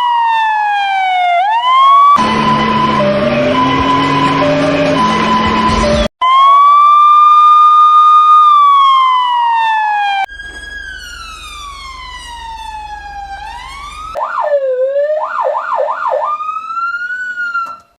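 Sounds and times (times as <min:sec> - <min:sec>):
police siren wailing: 0:00.0 - 0:18.0
police siren yelp: 0:00.0 - 0:18.0.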